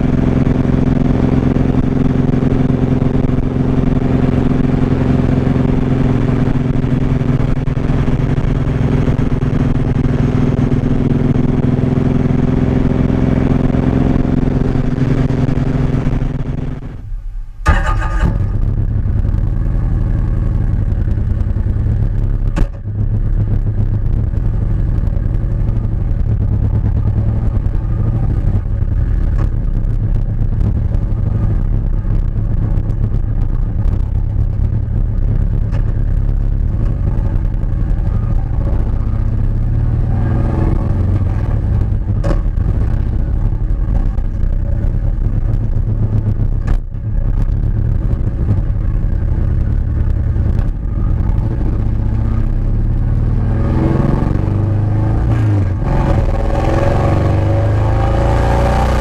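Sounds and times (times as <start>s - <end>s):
motorcycle engine deep rumble: 0.0s - 59.0s.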